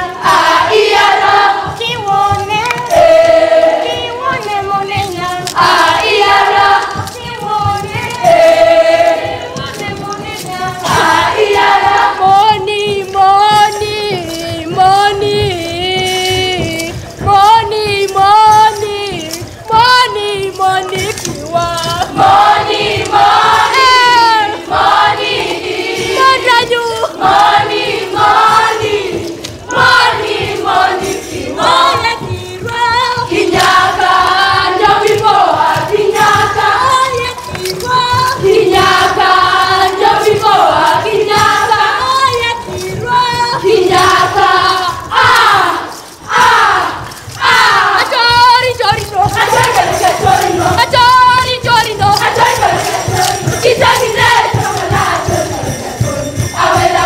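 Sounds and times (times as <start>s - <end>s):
group singing: 0.0s - 57.0s.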